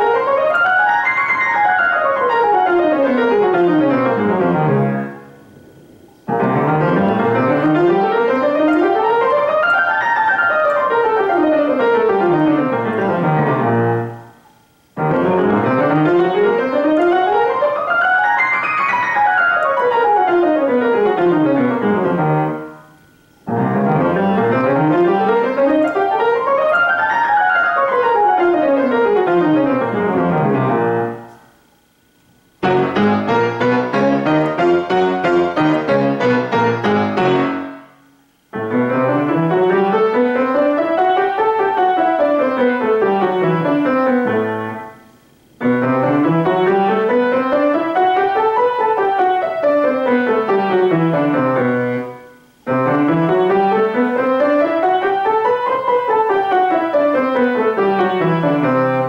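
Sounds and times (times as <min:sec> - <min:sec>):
grand piano scales: 0:00.0 - 0:59.0.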